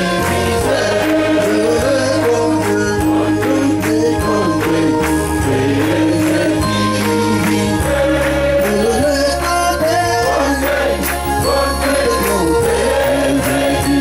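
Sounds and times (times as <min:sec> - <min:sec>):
bass line: 0:00.0 - 0:14.0
choir singing gospel: 0:00.0 - 0:14.0
percussion beat: 0:00.0 - 0:14.0.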